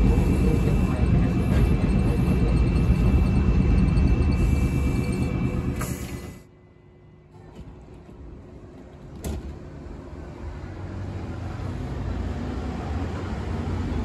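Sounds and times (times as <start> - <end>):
tram wheels and motors rumbling: 0.0 - 14.0.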